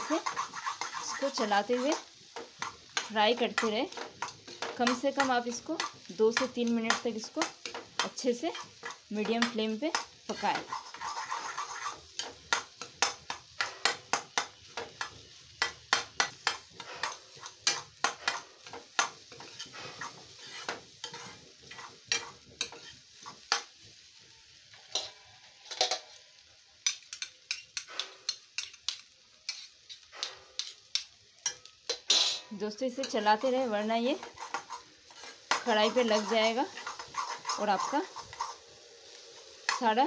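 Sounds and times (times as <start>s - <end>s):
metal ladle scraping a pan: 0.0s - 12.4s, 16.5s - 23.6s, 24.8s - 26.2s, 27.8s - 40.0s
egg sizzling: 0.0s - 40.0s.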